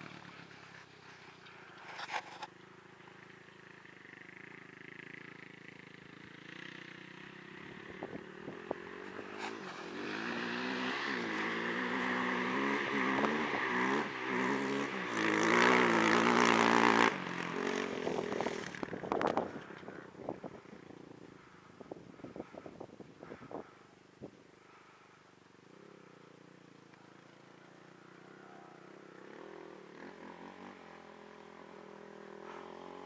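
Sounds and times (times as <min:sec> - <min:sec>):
atv engine revving: 0:00.0 - 0:22.7, 0:25.7 - 0:33.0.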